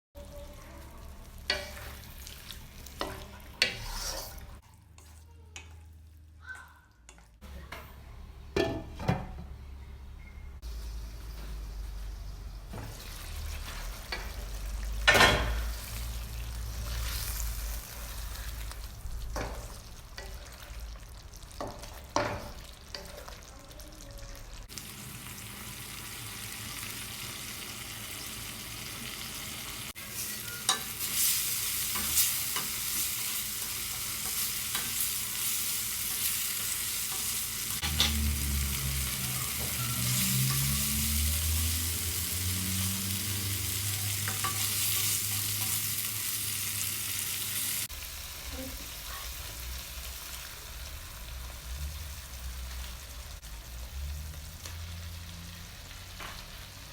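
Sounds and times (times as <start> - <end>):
food sizzling in a pan: 0.2 - 5.2, 10.7 - 56.9.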